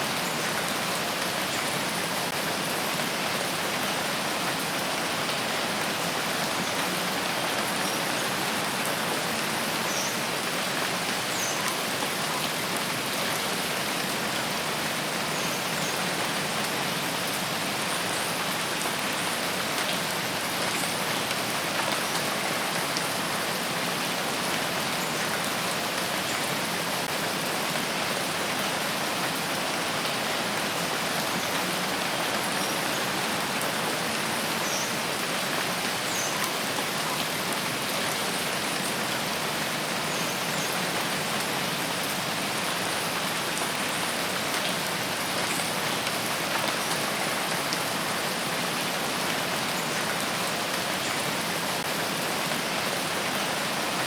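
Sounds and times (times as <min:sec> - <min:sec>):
steady rain on forest: 0:00.0 - 0:54.0.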